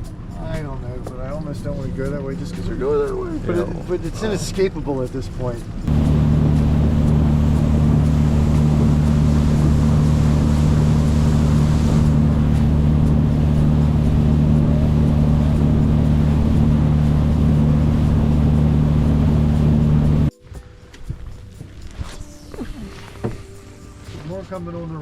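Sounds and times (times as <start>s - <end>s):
boat engine drone: 0.0s - 20.3s
wind and water hiss: 4.0s - 25.0s.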